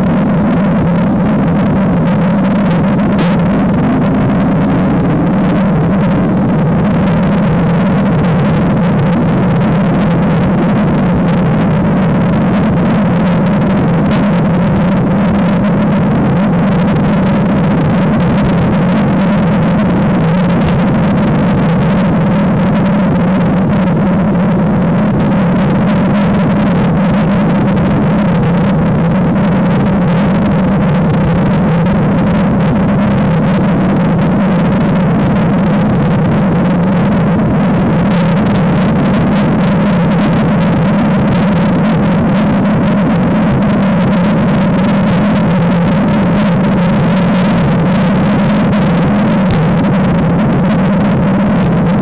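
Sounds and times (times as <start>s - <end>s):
steady low hum: 0.0s - 52.0s
wind rushing over microphone: 0.0s - 52.0s.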